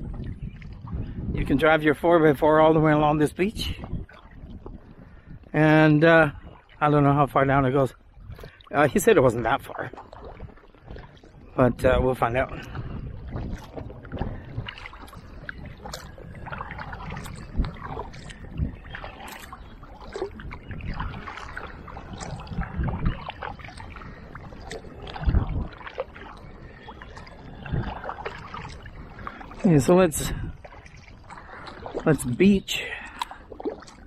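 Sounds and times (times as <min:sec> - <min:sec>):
paddle strokes splashing: 0:00.0 - 0:34.0
water lapping at hull: 0:00.0 - 0:34.0.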